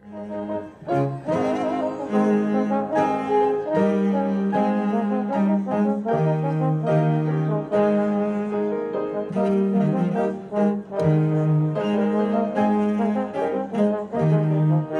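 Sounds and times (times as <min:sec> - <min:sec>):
brass playing sustained chords: 0:00.0 - 0:14.9.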